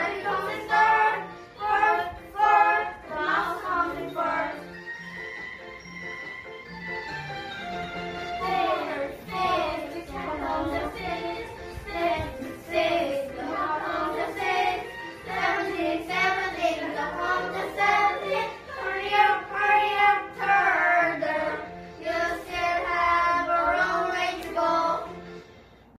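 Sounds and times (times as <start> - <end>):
children singing: 0.0 - 4.8, 8.2 - 25.1
backing music: 0.0 - 25.9.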